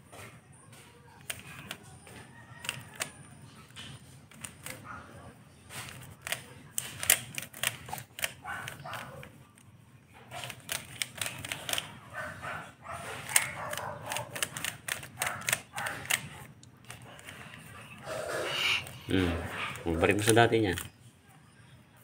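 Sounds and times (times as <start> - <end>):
puzzle cube clicking and rasping: 1.2 - 4.9, 5.7 - 12.0, 13.1 - 21.0.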